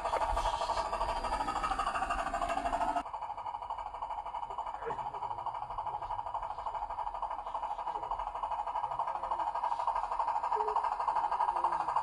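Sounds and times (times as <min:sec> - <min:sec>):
toy car electric motor whirring: 0:00.0 - 0:12.0.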